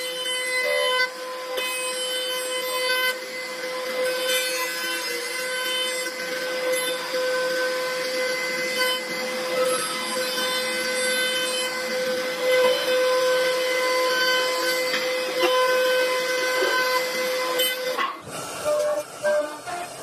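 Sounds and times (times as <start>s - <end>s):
lathe spindle whining: 0.0s - 20.0s.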